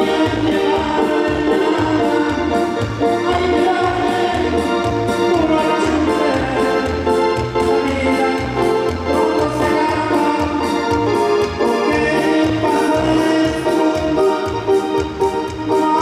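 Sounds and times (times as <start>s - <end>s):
organ-like keyboard chords: 0.0s - 16.0s
steady bass line: 0.0s - 16.0s.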